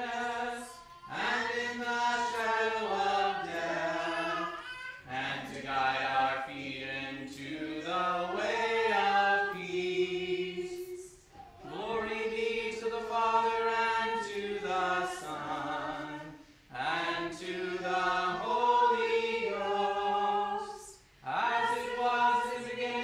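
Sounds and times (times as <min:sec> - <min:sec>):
congregation chanting unaccompanied: 0:00.0 - 0:23.0.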